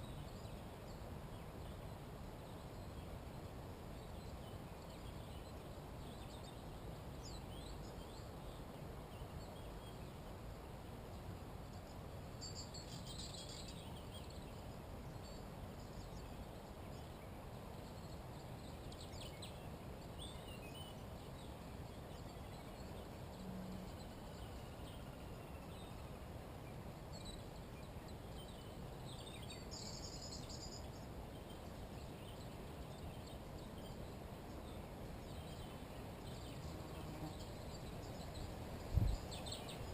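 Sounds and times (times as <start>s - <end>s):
low background rumble and hiss: 0.0s - 39.9s
songbirds chirping: 0.0s - 39.9s.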